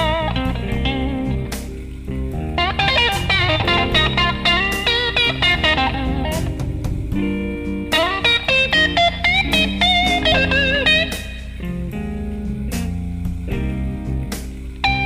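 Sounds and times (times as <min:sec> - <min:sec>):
electric guitar bending notes: 0:00.0 - 0:15.0
low bass notes: 0:00.0 - 0:15.0.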